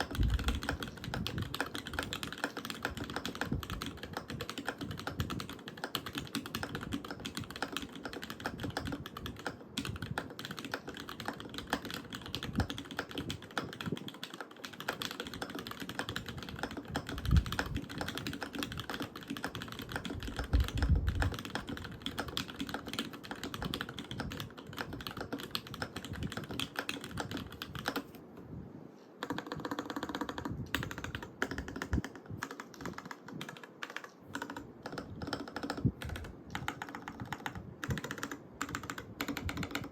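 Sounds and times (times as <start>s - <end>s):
mechanical keyboard typing: 0.0s - 28.2s, 29.2s - 39.9s.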